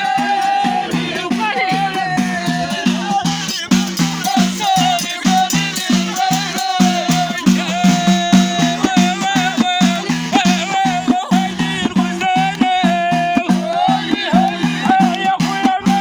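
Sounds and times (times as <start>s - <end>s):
hand drums beating: 0.0s - 16.0s
voices singing: 0.0s - 16.0s.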